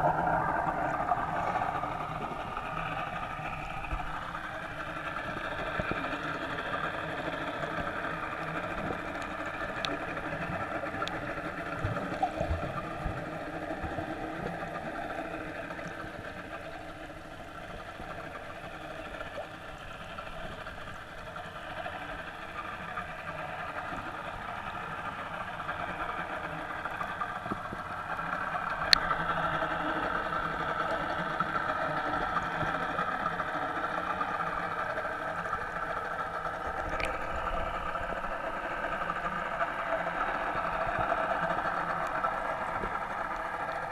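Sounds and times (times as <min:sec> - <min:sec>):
boat engine heard underwater: 0:00.0 - 0:43.9.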